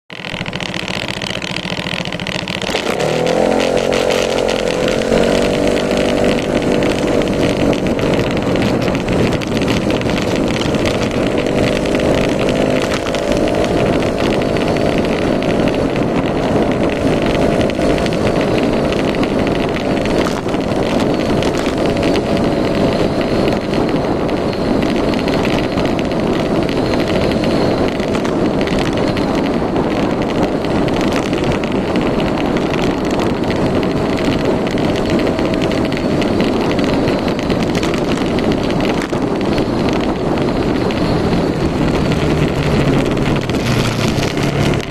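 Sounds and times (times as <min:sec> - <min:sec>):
scooter engine running: 0:00.1 - 0:44.9.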